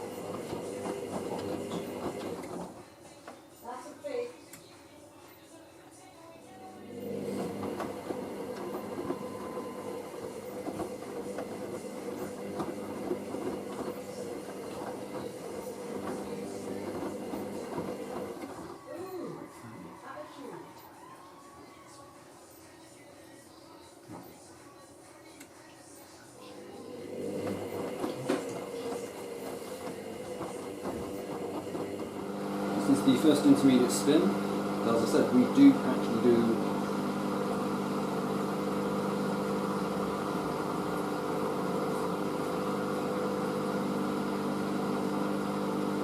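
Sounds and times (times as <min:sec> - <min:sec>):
washing machine motor hum: 0:00.0 - 0:03.8, 0:06.7 - 0:21.6, 0:26.4 - 0:46.0.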